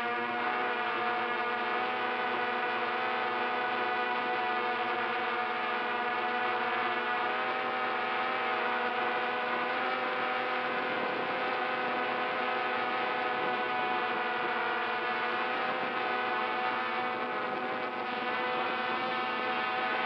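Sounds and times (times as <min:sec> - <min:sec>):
drone motors humming: 0:00.0 - 0:20.0.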